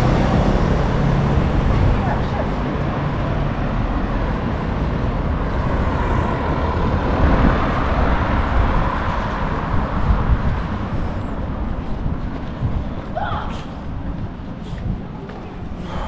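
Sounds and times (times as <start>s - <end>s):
low traffic rumble: 0.0s - 16.0s.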